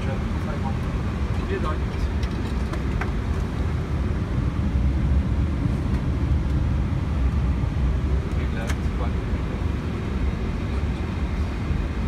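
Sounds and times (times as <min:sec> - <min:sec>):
aircraft engines idling: 0:00.0 - 0:12.0.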